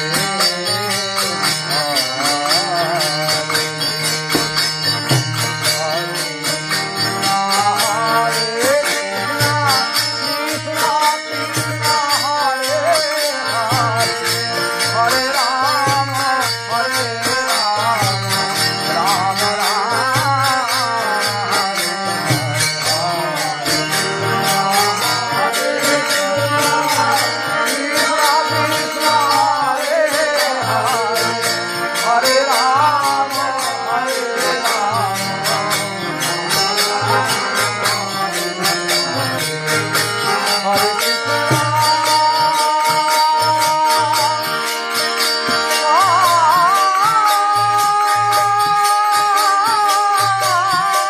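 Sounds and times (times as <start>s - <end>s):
devotional melody: 0.0s - 51.0s
metal percussion jingling: 0.0s - 51.0s.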